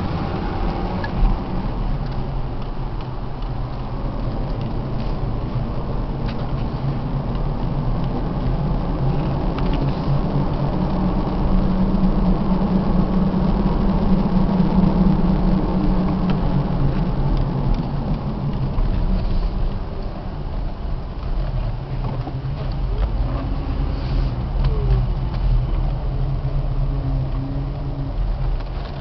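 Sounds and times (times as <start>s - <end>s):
car engine and road noise inside: 0.0s - 29.0s.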